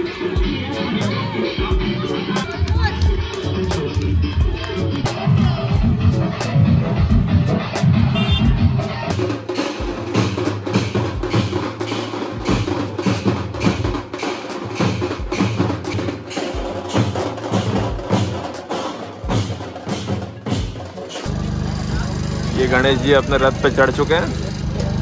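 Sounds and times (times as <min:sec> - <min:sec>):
deep drum beats: 0:00.0 - 0:25.0.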